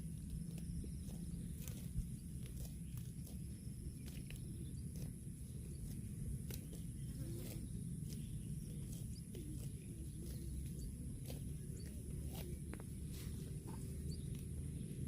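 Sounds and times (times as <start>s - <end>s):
cattle biting and hooves knocking: 0.0s - 15.0s
steady low rumble: 0.0s - 15.0s.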